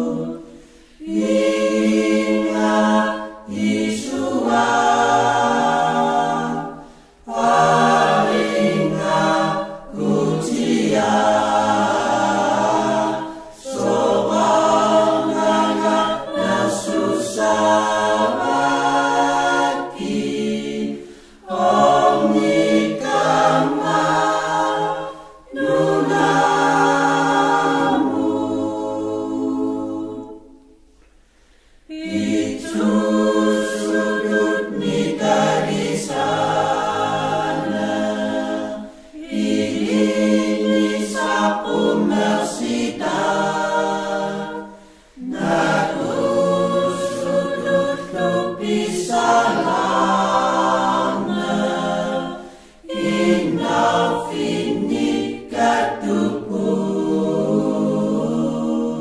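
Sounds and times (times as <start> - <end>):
choir singing a hymn: 0.0 - 31.0, 31.8 - 59.0.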